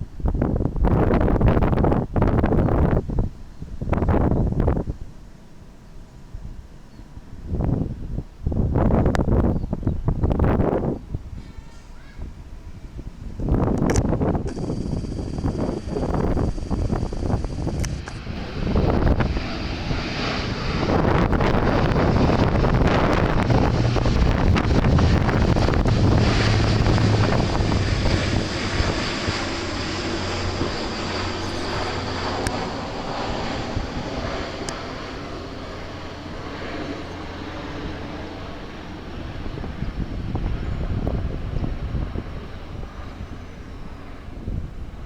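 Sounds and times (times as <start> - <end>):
wind buffeting microphone: 0.0 - 5.3, 6.3 - 45.0
turboprop aircraft passing: 6.6 - 45.0.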